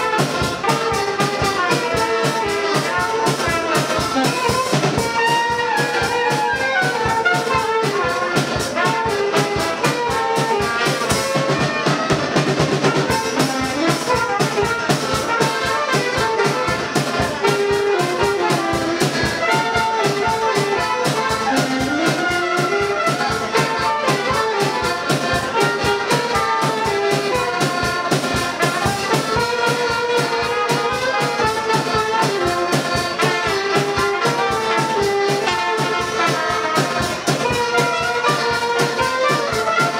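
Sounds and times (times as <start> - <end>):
accordions playing: 0.0 - 39.9
drum kit beat: 0.0 - 39.9
saxophone playing: 0.0 - 39.9.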